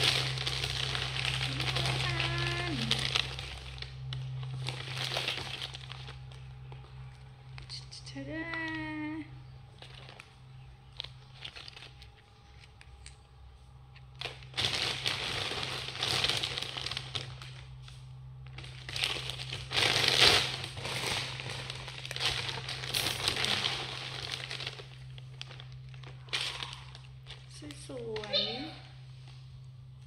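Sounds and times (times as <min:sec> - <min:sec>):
plastic bag crinkling: 0:00.0 - 0:30.0
steady low hum: 0:00.0 - 0:30.0.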